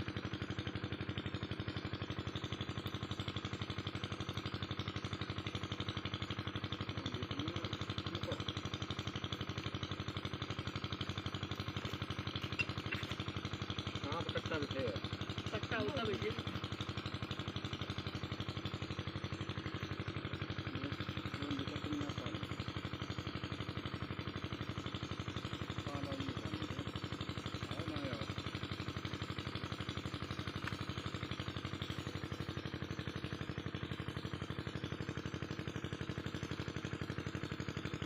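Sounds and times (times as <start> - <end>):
diesel water pump engine running: 0.0 - 38.0.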